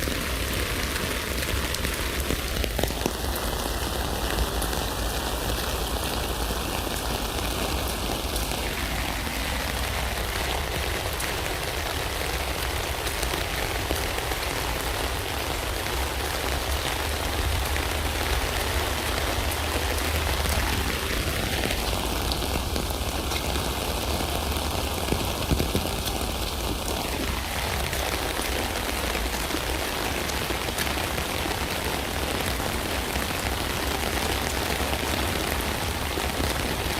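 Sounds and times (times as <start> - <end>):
rain falling on a tent: 0.0 - 36.9.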